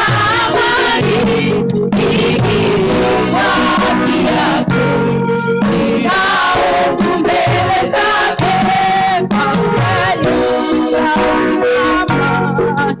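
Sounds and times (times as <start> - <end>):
choir singing: 0.0 - 13.0
instrumental backing: 0.0 - 13.0.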